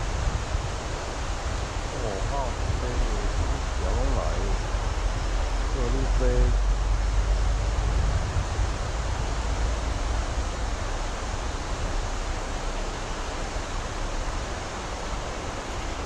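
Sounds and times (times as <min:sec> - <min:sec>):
low rumble: 0:00.0 - 0:16.0
river water rushing: 0:00.0 - 0:16.0.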